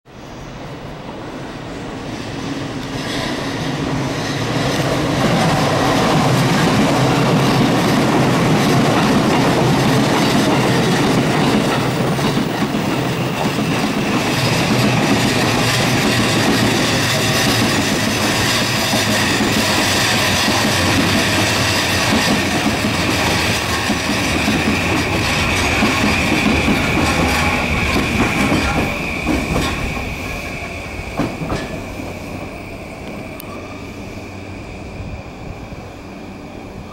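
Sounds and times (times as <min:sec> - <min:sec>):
train wheels running over rails: 0:02.0 - 0:33.9.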